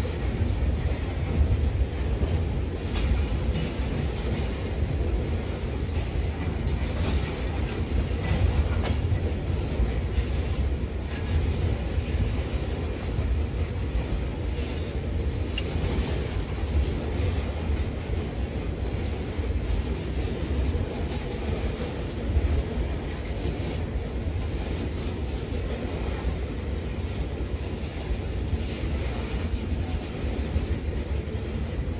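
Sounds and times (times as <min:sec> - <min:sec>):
train clanks: 0:00.0 - 0:31.9
train wheels rumbling on rail: 0:00.0 - 0:31.9.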